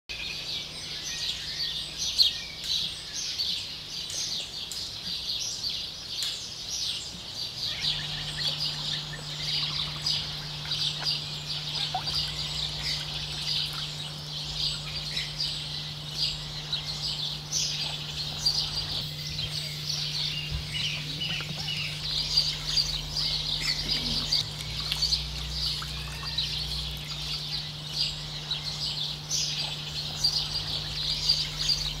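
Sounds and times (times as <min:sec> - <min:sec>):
steady low hum: 0:00.1 - 0:32.0
chorus of high-pitched chirps: 0:00.3 - 0:32.0.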